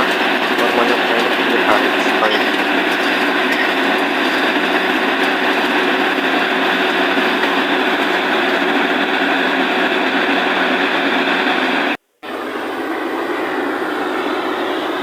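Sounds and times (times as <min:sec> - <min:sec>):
drilling rig running: 0:00.0 - 0:15.0.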